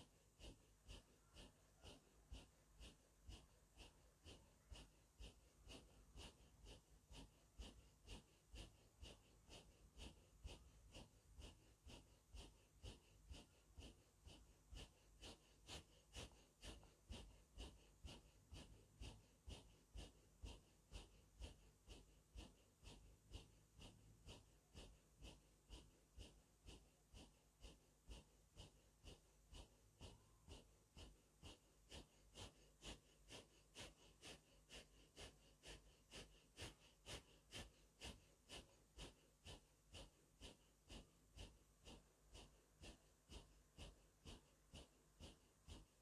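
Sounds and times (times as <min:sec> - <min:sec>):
rapid breathing through the nose: 0:00.0 - 0:46.0.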